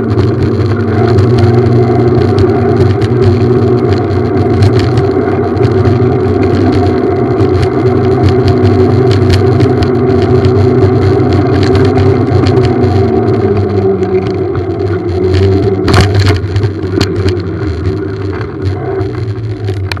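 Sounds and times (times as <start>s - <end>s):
jolt: 0.0s - 20.0s
motorbike engine humming: 0.0s - 20.0s
rattling clicks: 0.0s - 20.0s.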